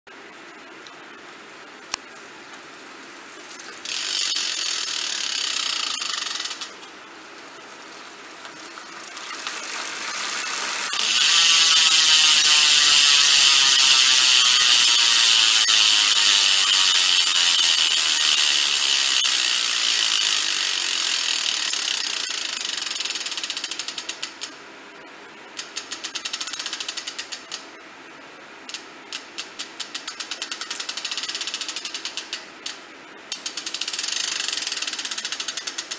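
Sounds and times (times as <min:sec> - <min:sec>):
bicycle hub ratcheting buzz: 0:03.8 - 0:06.8, 0:07.6 - 0:24.6, 0:25.6 - 0:27.7, 0:28.7 - 0:35.9.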